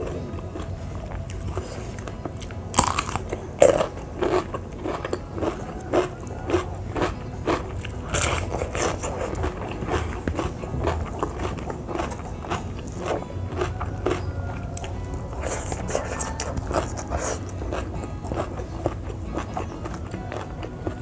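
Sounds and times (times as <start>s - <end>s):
chewing: 0.0s - 21.0s
crunching bites of vegetables: 0.0s - 21.0s.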